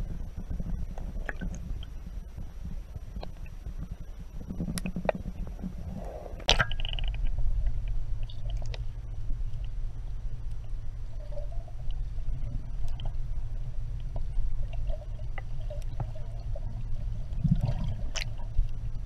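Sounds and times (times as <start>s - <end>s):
small underwater clicks: 0.0s - 9.8s, 10.4s - 19.0s
underwater rumble of moving water: 0.0s - 19.0s.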